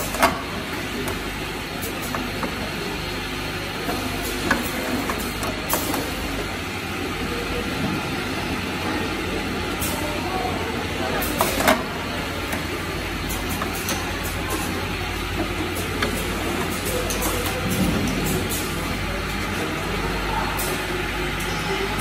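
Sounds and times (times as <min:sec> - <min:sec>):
conveyor mechanical noise: 0:00.0 - 0:22.0.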